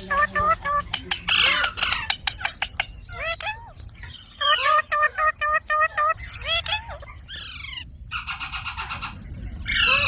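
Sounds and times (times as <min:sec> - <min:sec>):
parrot calling: 0:00.0 - 0:10.0.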